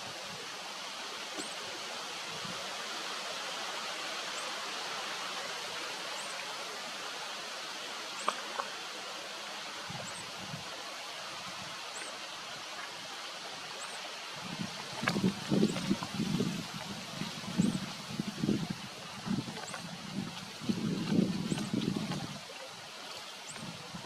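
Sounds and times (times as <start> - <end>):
outdoor background hiss: 0.0 - 21.8.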